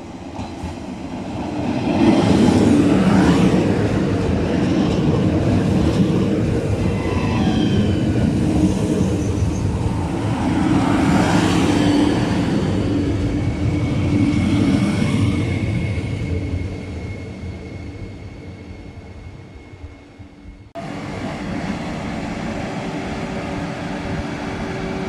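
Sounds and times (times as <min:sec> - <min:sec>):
electric train rumbling past: 0:00.0 - 0:25.0.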